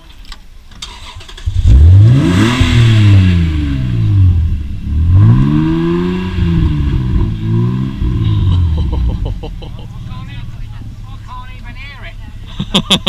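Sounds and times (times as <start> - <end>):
car engine revving: 0.8 - 13.0.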